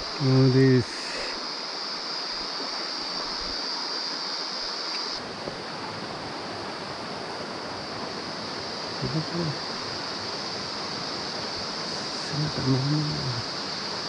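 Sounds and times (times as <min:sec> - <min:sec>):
stream water flowing over rocks: 0:00.0 - 0:14.0.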